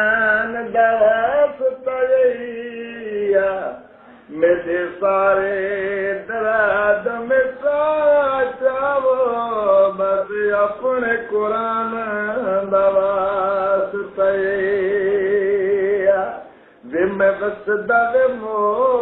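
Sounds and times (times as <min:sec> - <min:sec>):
man singing with vibrato: 0:00.0 - 0:19.0.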